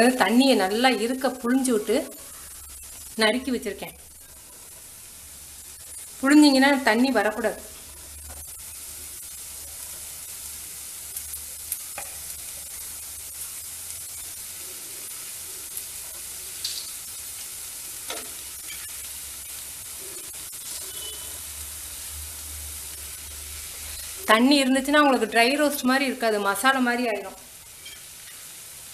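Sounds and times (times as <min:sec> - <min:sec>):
masala sizzling in a pan: 0:00.0 - 0:28.9.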